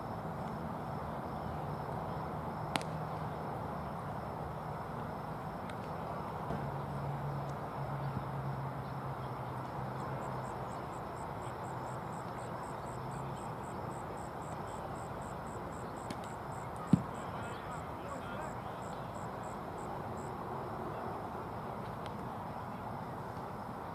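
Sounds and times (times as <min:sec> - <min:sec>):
insects chirping: 0:00.0 - 0:23.9.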